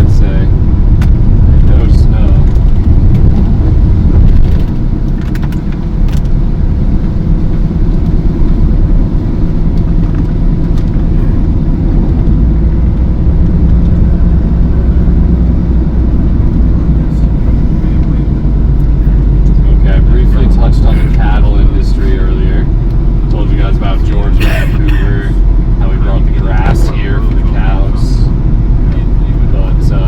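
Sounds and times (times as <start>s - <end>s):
vehicle engine and tyre rumble: 0.0s - 30.0s.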